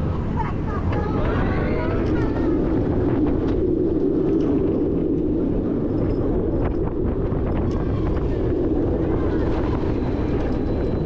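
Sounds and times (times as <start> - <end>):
roller coaster rumbling on track: 0.0 - 11.0
wind rushing over microphone: 0.0 - 11.0.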